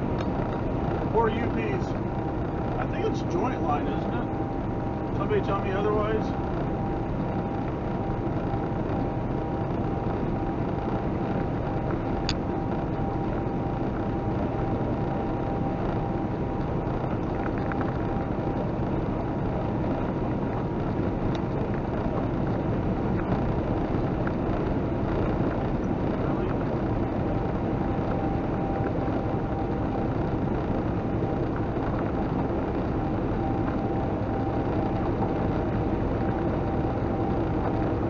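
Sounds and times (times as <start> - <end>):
car engine: 0.0 - 38.0
road tyre and wind noise: 0.0 - 38.0.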